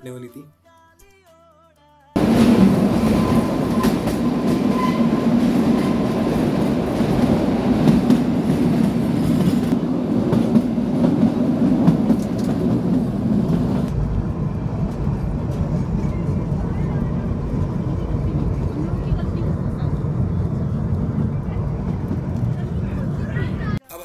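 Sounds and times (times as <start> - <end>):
train rolling rumble: 2.2 - 23.8
wheels clacking on rails: 2.2 - 23.8.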